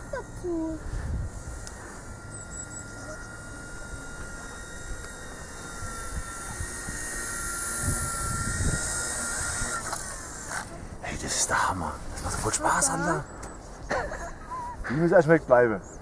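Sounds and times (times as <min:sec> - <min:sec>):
rc helicopter motor whine: 0:00.0 - 0:15.3.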